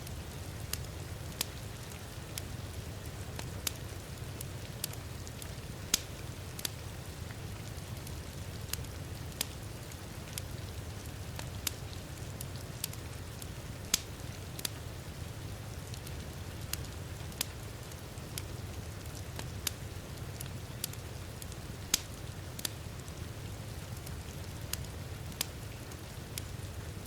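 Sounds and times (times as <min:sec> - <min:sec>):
fire popping and snapping: 0:00.0 - 0:26.7
wood fire crackling: 0:00.0 - 0:27.0.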